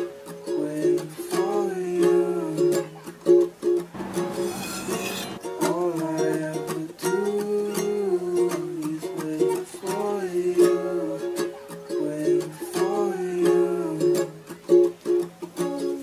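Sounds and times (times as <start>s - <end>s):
plucked strings music: 0.0s - 16.0s.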